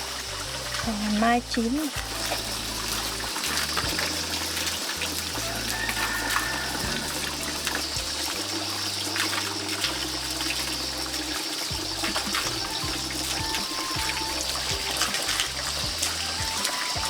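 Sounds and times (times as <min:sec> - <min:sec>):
soft background music: 0:00.0 - 0:17.0
water trickling and splashing: 0:00.0 - 0:17.0.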